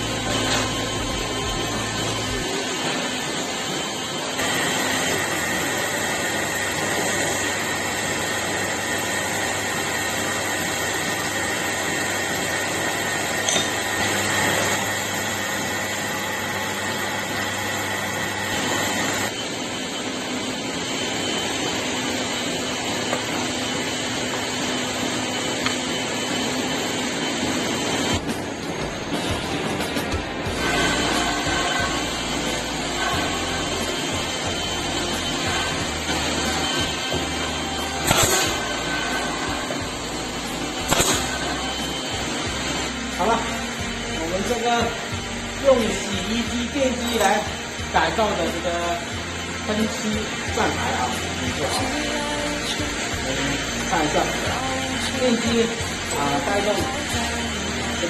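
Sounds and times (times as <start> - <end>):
high whine: 0.0 - 58.0
power tool running: 0.0 - 58.0.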